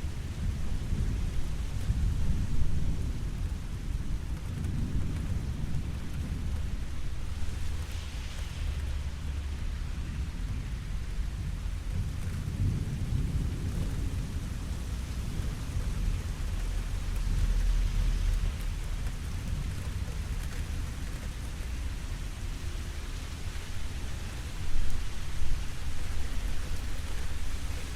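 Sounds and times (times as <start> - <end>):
low rolling thunder: 0.0 - 27.9
steady rain falling: 0.0 - 27.9.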